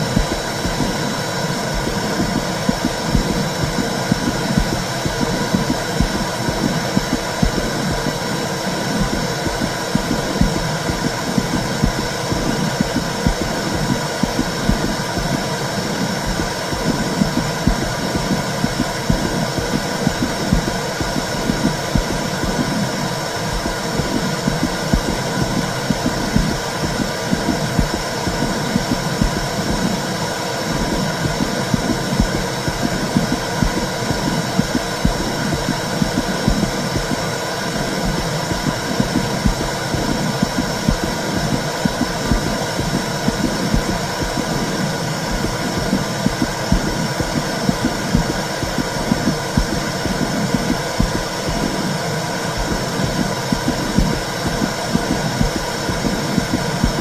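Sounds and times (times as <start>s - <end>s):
pulsing heartbeat: 0.0s - 57.0s.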